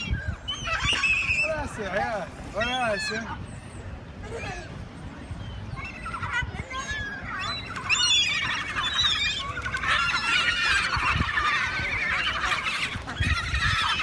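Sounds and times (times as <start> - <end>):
seagulls squawking: 0.0 - 14.0.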